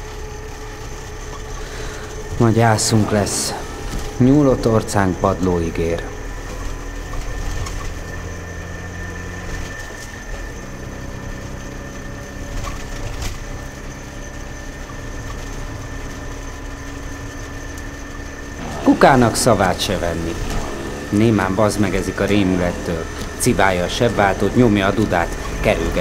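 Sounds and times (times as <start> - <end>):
two-stroke car engine droning: 0.0 - 26.0.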